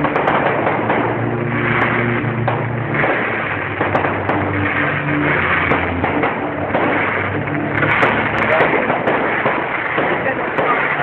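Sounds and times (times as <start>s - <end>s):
fireworks crackling hiss: 0.0s - 11.0s
low droning tone: 0.0s - 11.0s.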